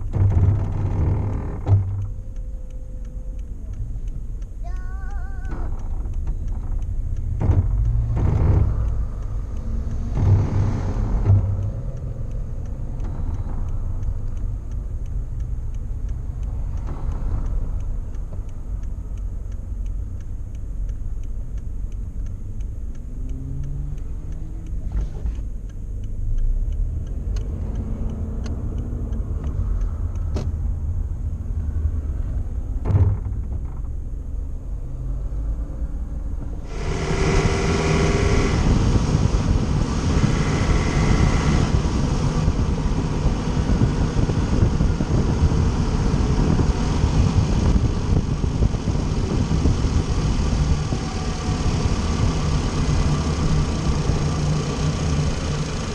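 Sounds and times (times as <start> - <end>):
car driving rumble: 0.0 - 55.9.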